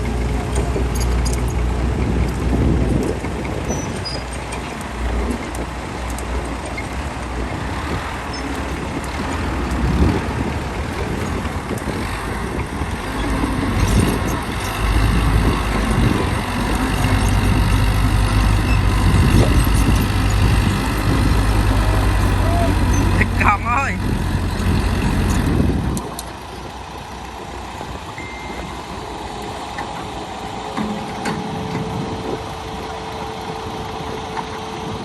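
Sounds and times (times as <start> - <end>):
heavy vehicle engine running: 0.0 - 35.0.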